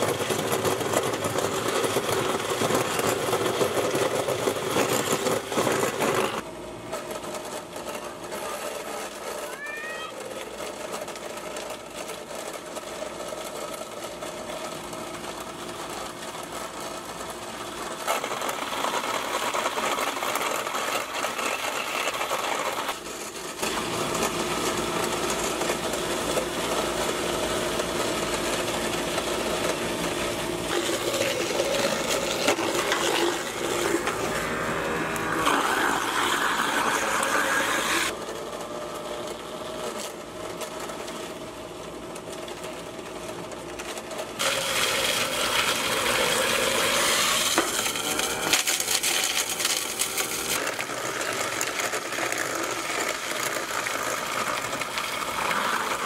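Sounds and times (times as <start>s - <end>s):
garbage disposal grinding: 0.0s - 56.0s.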